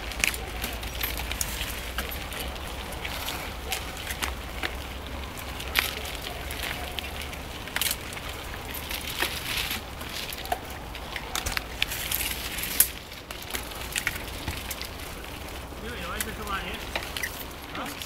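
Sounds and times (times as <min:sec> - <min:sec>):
bike tyres crunching over leaves: 0:00.0 - 0:18.0.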